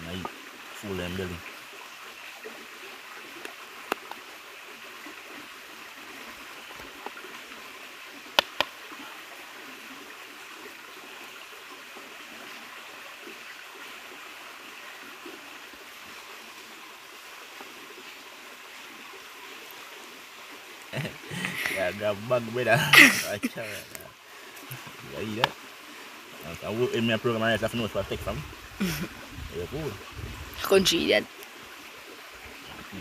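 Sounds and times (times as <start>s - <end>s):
river stream rushing: 0.0s - 33.0s.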